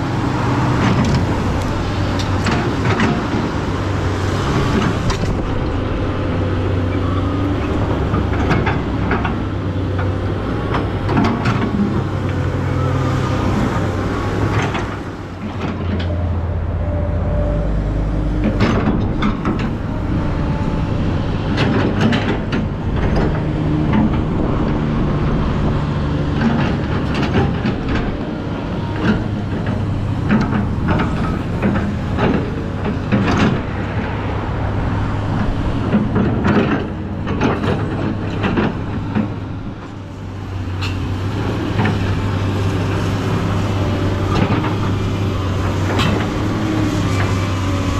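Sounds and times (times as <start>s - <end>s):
excavator diesel engine under load: 0.0s - 47.9s.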